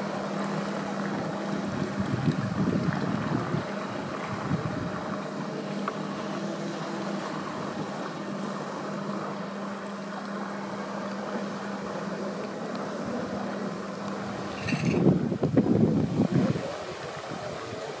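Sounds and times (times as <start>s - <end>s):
small boat motor running: 0.0s - 18.0s.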